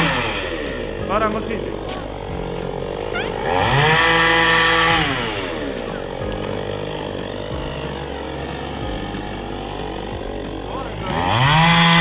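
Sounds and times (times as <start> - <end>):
chainsaw revving and idling: 0.0 - 12.0.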